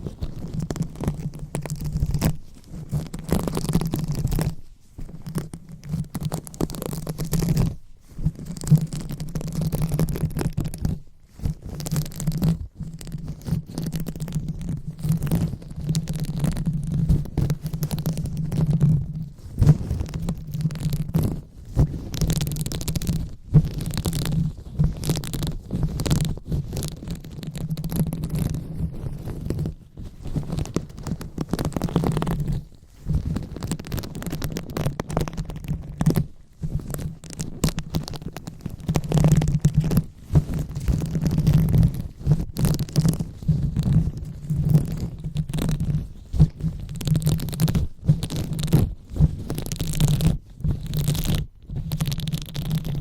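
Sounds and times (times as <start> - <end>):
scratching on microphone: 0.0 - 53.0.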